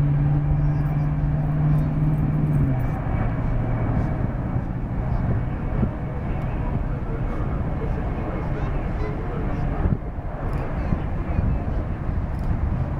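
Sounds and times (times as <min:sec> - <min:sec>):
jet engines roaring: 0:00.0 - 0:12.9.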